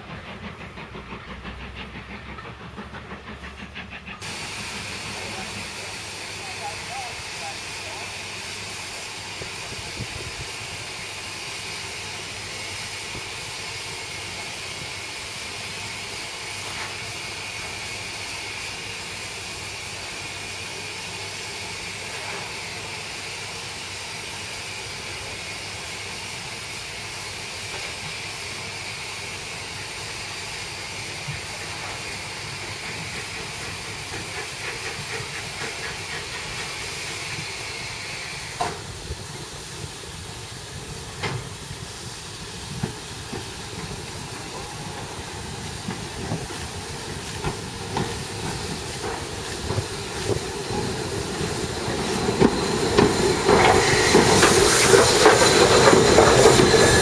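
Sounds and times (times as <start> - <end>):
approaching steam locomotive beat: 0.0 - 57.0
steam locomotive hissing: 0.0 - 57.0.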